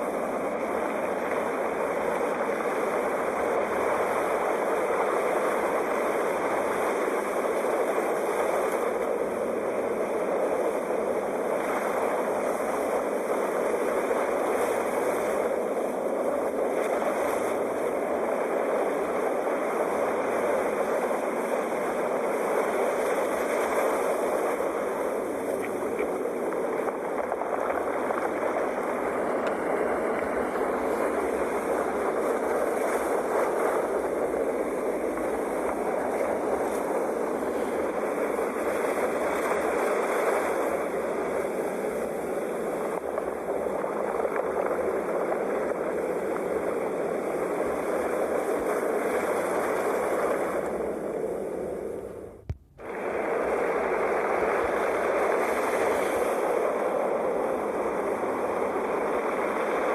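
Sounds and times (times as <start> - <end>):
sea waves on a shore: 0.0 - 59.9.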